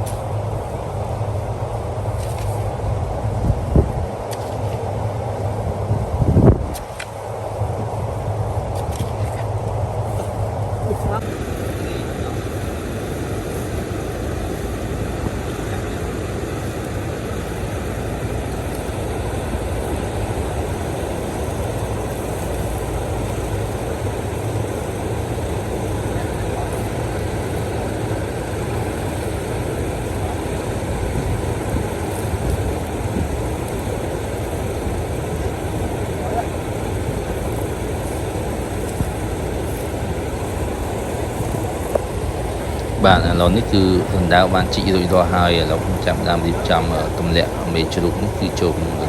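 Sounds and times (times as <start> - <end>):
low rumbling hum: 0.0 - 49.0.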